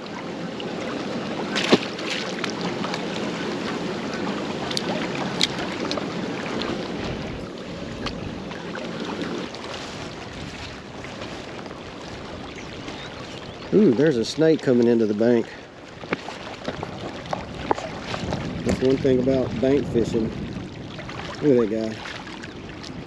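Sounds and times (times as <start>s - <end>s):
water lapping against rocks: 0.0s - 23.0s
wind buffeting microphone: 0.0s - 23.0s.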